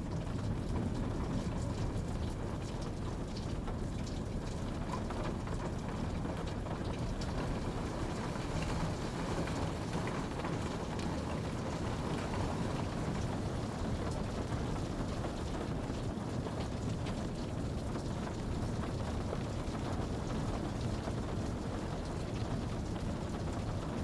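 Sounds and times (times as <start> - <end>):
raindrops ticking on a surface: 0.0 - 24.0
steady rain hiss: 0.2 - 24.0.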